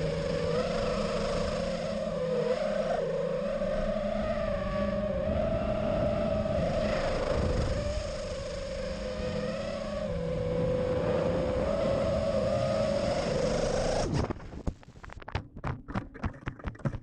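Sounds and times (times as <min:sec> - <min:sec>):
drone motors whining: 0:00.0 - 0:14.4.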